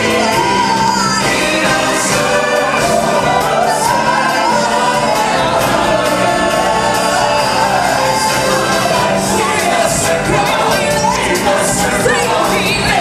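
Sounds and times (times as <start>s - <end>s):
choir singing over backing track: 0.0s - 13.0s.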